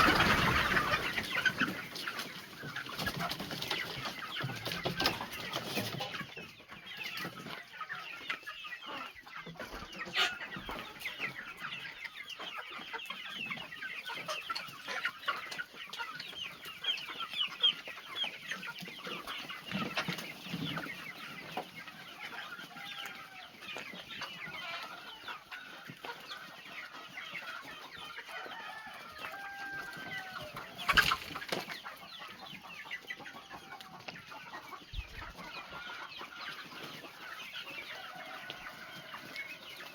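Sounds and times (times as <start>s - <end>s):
young chickens clucking and cheeping: 0.0s - 39.9s.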